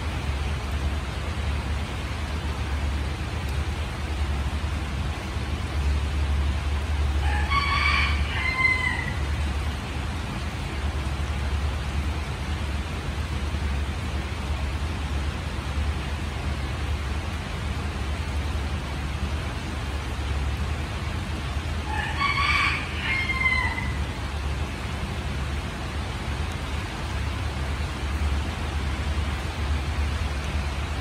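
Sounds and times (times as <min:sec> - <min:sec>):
low constant rumble: 0:00.0 - 0:31.0
rain hiss: 0:00.0 - 0:31.0.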